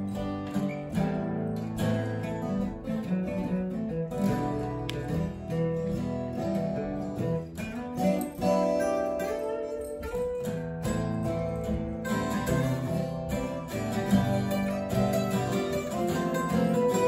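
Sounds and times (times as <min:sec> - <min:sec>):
acoustic guitars strumming chords: 0:00.0 - 0:17.0.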